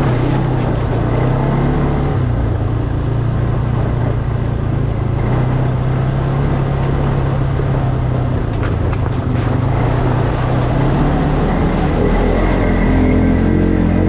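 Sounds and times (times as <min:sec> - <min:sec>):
constant rushing noise: 0:00.0 - 0:14.0
engine running steadily: 0:00.0 - 0:14.0.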